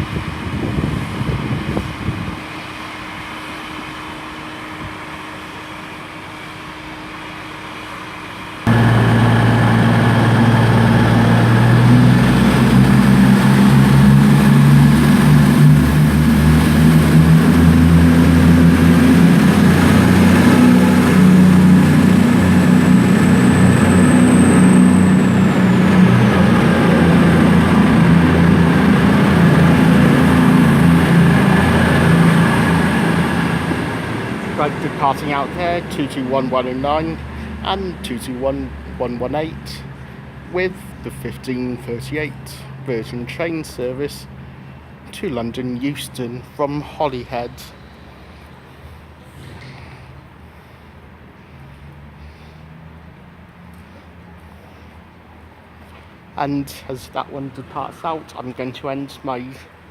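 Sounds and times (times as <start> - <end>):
diesel train engines running hard: 0.0 - 59.9.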